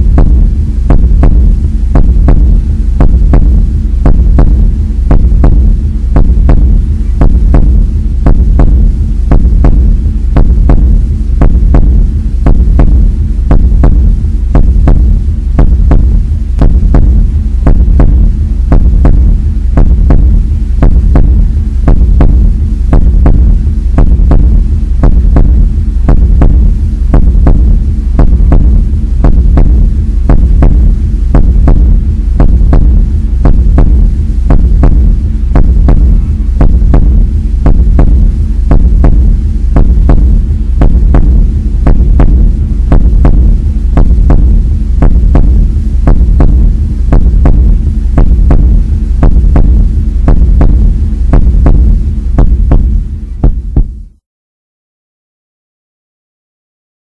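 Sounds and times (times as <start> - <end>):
deep steady hum: 0.0 - 54.1.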